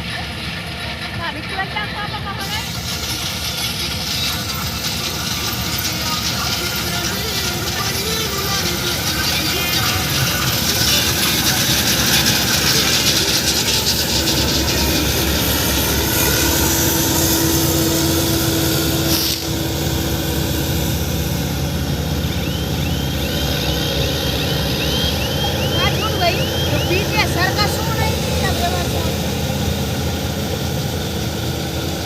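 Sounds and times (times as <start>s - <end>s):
combine harvester drone: 0.0s - 32.0s.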